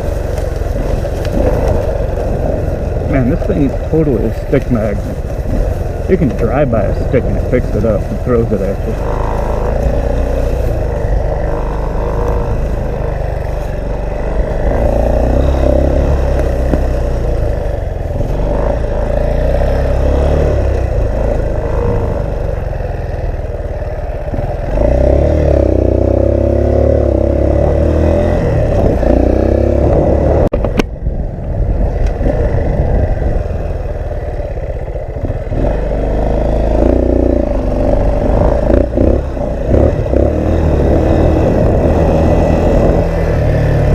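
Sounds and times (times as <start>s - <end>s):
wind buffeting microphone: 0.0s - 23.4s, 27.1s - 43.9s
motorcycle engine running: 0.0s - 43.9s.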